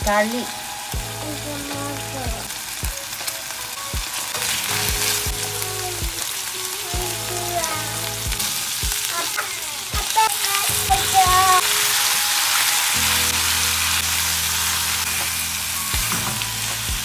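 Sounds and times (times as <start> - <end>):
pork sizzling in oil: 0.0 - 17.0.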